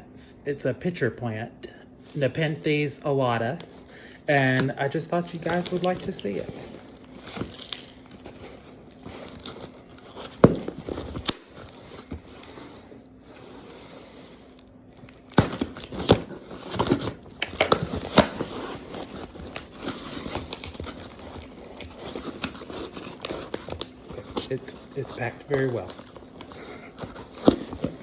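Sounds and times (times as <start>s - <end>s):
packing material crinkling and tearing: 2.6s - 28.0s.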